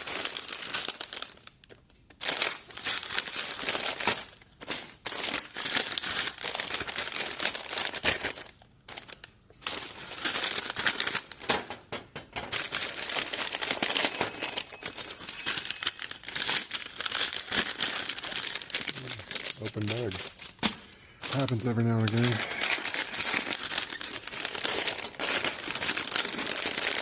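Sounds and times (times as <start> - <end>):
plastic snack bags crinkling: 0.0 - 27.0.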